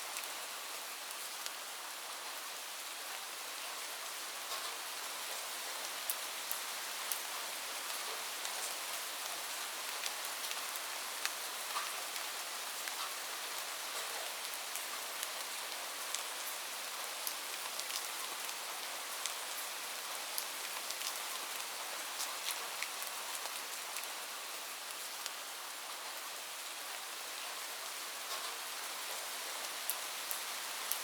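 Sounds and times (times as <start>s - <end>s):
light rain hiss: 0.0s - 31.0s.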